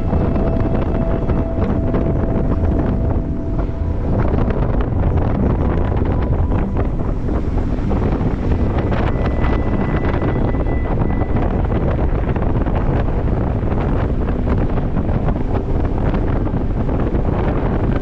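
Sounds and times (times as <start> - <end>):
engine and tyres rumbling: 0.0 - 18.0
wind buffeting microphone: 0.0 - 18.0.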